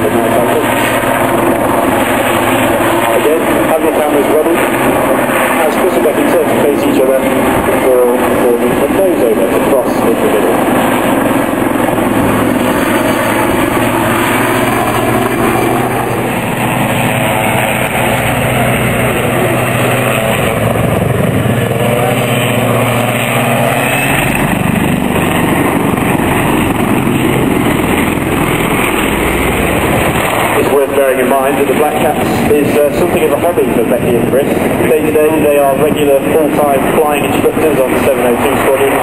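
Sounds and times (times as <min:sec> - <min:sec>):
helicopters flying past overhead: 0:00.0 - 0:39.0.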